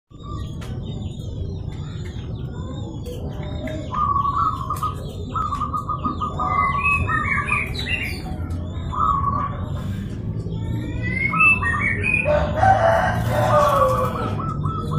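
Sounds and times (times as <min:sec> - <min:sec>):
small birds chirping: 0:00.1 - 0:14.9
dove stuttering coos: 0:00.2 - 0:14.9.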